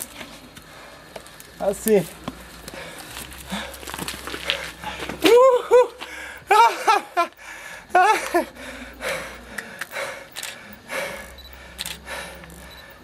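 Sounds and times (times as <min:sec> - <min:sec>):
heavy breathing: 0:00.0 - 0:01.5, 0:02.1 - 0:13.0.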